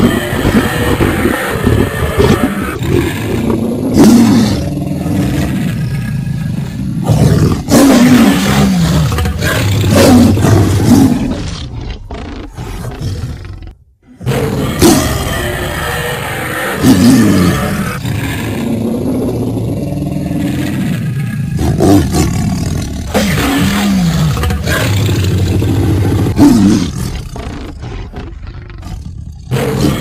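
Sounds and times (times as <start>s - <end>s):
cartoon roaring: 0.0s - 30.0s.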